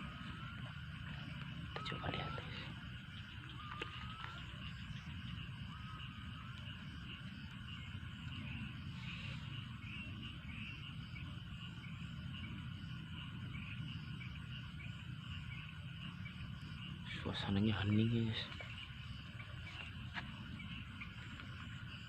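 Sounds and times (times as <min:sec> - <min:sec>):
frogs calling: 0:00.0 - 0:22.0
insects chirping: 0:00.0 - 0:22.0.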